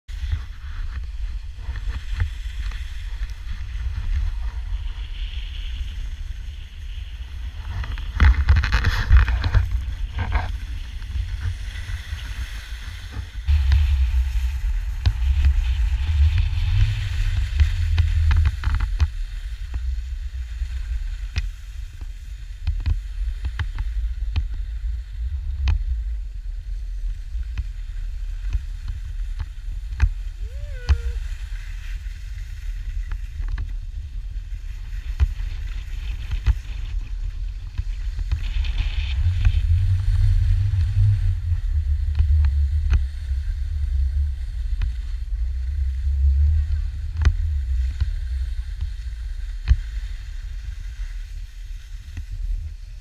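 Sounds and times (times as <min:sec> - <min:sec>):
wind rumbling on microphone: 0:00.0 - 0:53.0
skis scraping over snow: 0:00.1 - 0:53.0.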